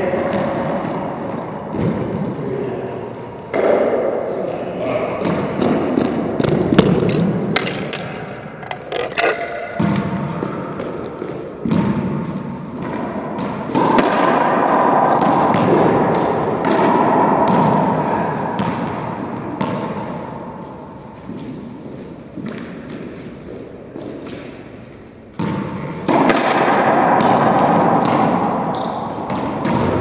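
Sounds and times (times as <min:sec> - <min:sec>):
racquetball hits echoing: 0:00.0 - 0:30.0.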